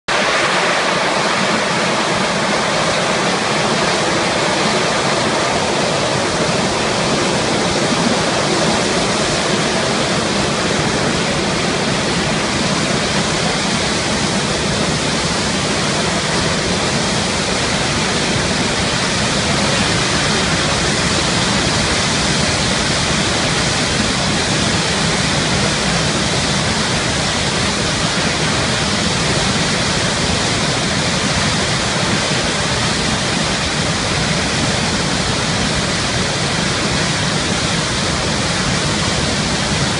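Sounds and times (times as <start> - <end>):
water rushing in a torrent: 0.0 - 39.9.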